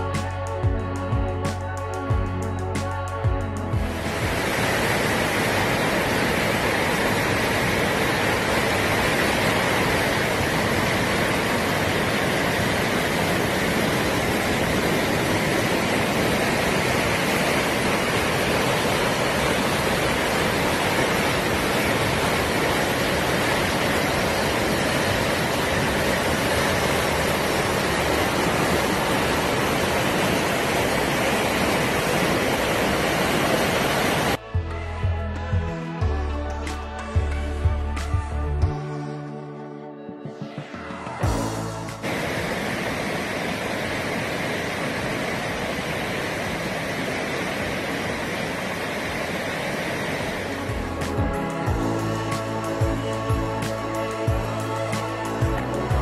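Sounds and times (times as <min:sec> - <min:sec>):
whitewater rushing: 0:03.6 - 0:34.4, 0:40.7 - 0:56.0.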